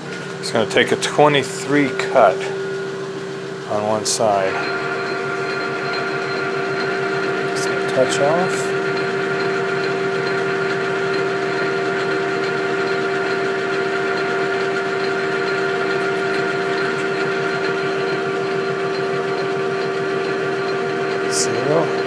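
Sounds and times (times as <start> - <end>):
metal lathe humming: 0.0 - 22.0.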